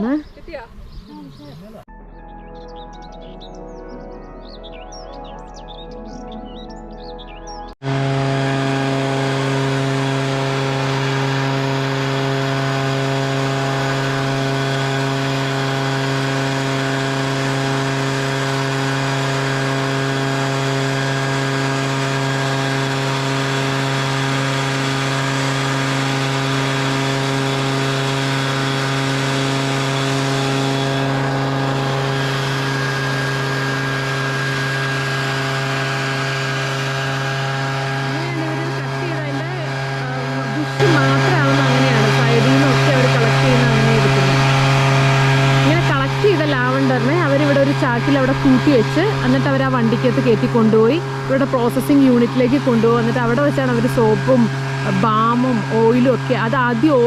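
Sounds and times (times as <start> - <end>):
small engine running: 4.4 - 57.0.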